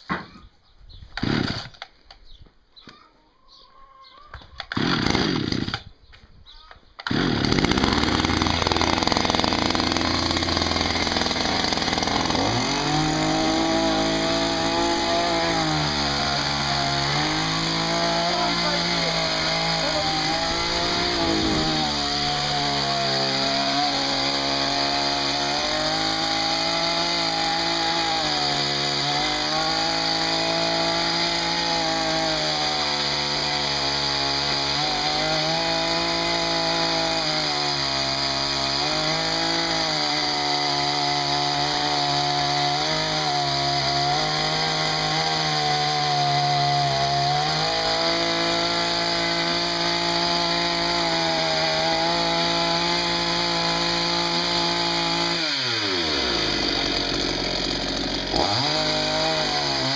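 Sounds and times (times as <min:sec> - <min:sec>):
chainsaw cutting wood: 0:01.1 - 0:02.0, 0:04.6 - 0:05.9, 0:07.0 - 0:59.9.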